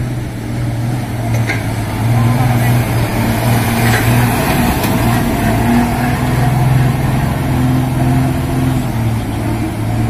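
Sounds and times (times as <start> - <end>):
heavy diesel engines running: 0.0 - 10.0.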